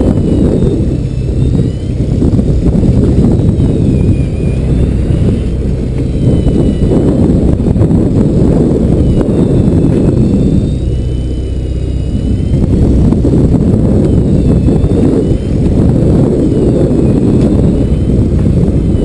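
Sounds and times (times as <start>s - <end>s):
boat engine rumble: 0.0s - 19.0s
faint high whine: 0.0s - 19.0s
wind buffeting microphone: 0.0s - 19.0s.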